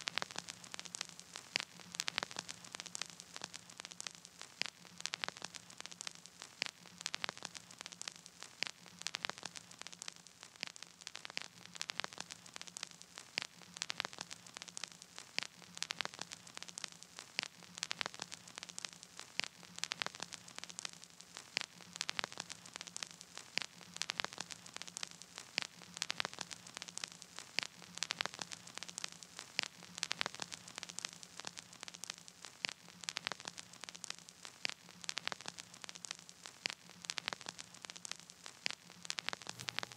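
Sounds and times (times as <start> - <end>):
sharp clicks and crackles: 0.0 - 39.9
static hiss: 0.0 - 39.9.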